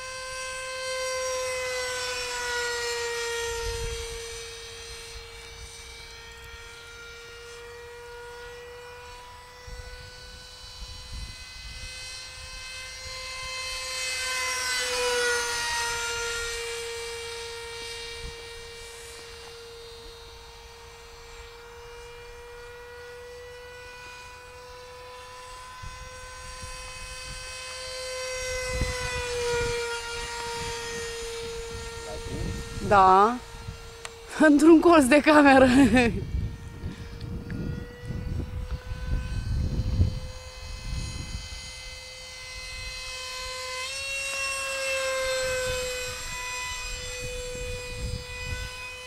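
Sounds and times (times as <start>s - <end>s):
model jet fan whining: 0.0s - 49.0s.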